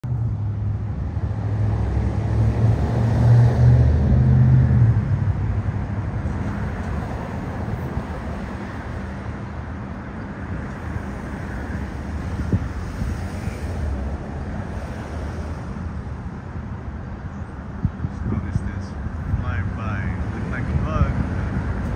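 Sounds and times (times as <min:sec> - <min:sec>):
passing vehicle engine hum: 0:00.0 - 0:21.9.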